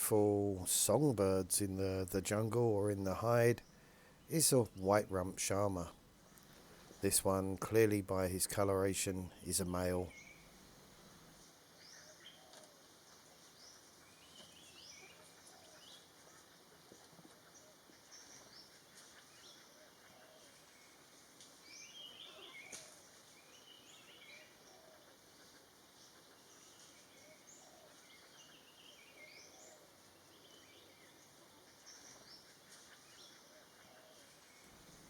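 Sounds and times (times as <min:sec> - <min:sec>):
forest background hiss: 0:00.0 - 0:35.0.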